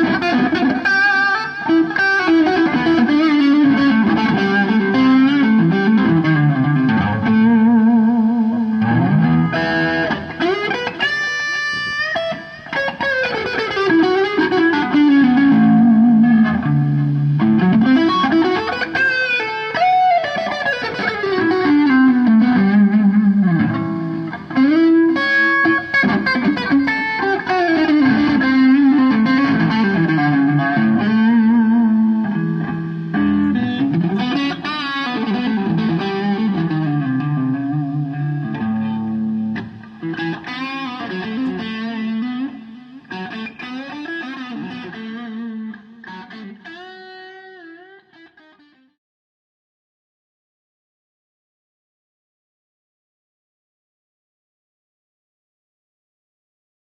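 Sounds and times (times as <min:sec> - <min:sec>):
distorted electric guitar lead: 0:00.0 - 0:48.9.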